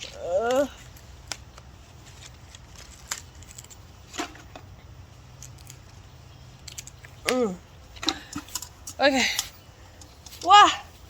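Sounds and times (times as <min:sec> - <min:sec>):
twigs snapping: 0:00.0 - 0:10.6
low steady hum: 0:00.0 - 0:11.0.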